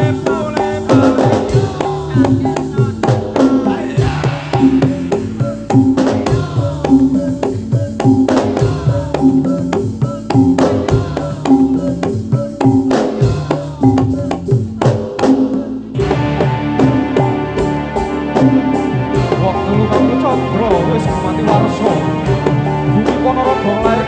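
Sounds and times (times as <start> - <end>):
hand-drum strokes: 0.0 - 24.0.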